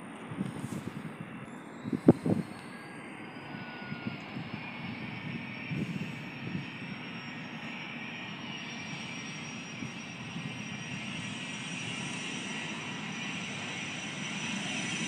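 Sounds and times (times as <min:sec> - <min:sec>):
jet engines running: 0:00.0 - 0:15.0
high engine whine rising: 0:00.1 - 0:15.0.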